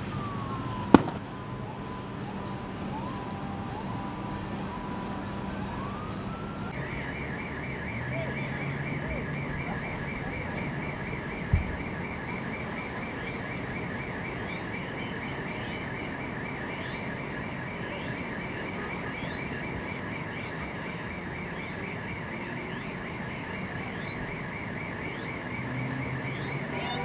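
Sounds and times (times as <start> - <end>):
warbling electronic alarm: 0.0 - 27.0.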